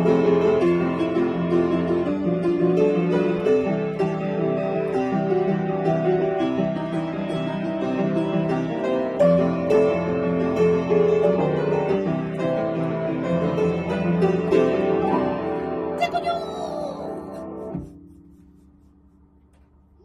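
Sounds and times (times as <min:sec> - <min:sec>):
upright piano playing: 0:00.0 - 0:18.4.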